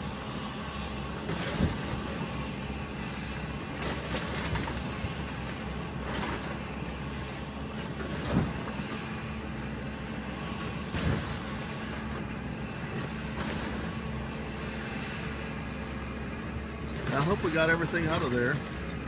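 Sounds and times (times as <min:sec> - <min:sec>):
demolition machinery engine running: 0:00.0 - 0:19.0.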